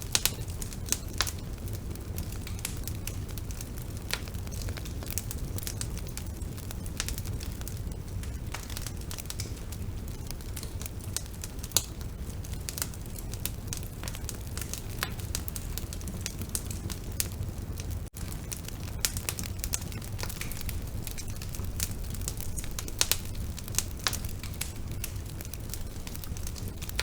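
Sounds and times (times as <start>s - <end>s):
bonfire burning and crackling: 0.0s - 27.0s.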